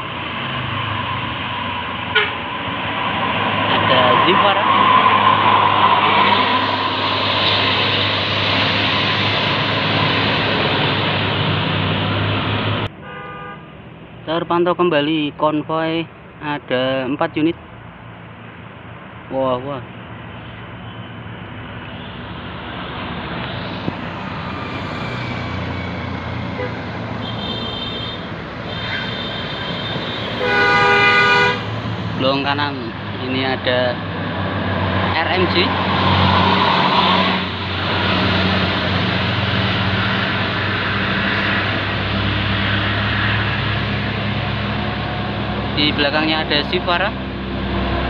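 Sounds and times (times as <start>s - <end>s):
buses approaching on road: 0.0s - 48.0s.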